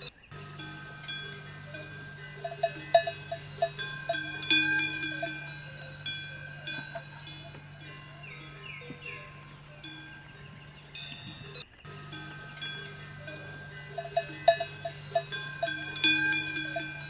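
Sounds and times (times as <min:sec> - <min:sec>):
bells clanking and ringing: 0:00.0 - 0:17.0
steady low hum: 0:00.0 - 0:17.0.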